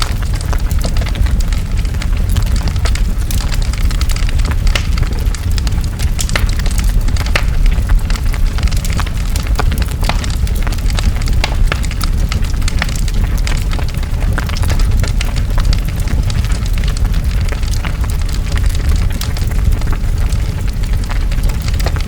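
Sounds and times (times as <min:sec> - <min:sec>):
fire crackling and popping: 0:00.0 - 0:22.0
roar of flames: 0:00.0 - 0:22.0.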